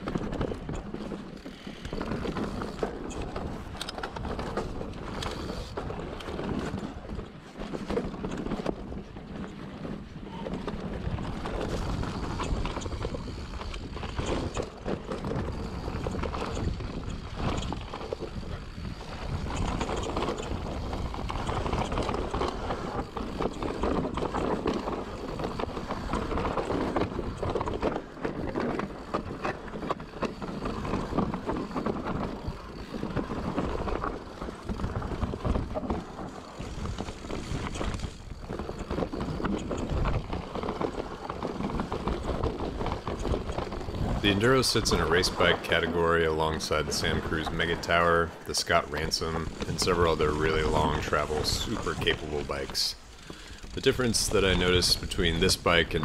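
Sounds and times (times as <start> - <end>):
bike rattles and knocks: 0.0 - 56.0
wind on microphone: 0.0 - 56.0
tyre noise on dirt: 10.2 - 56.0.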